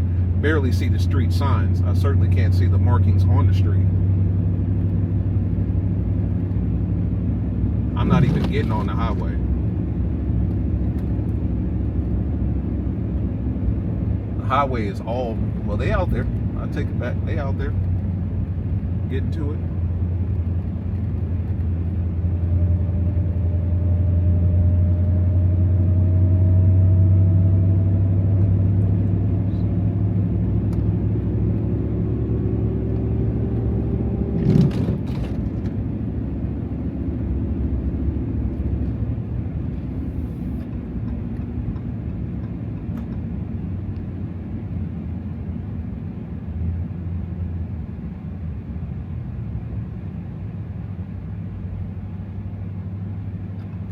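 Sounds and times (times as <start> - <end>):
truck engine hum and whine: 0.0 - 53.9.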